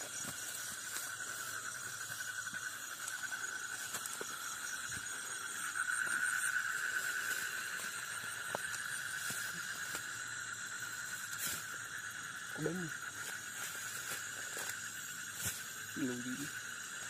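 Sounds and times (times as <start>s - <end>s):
crickets trilling: 0.0s - 17.0s
higher-pitched insect chirping: 0.0s - 17.0s.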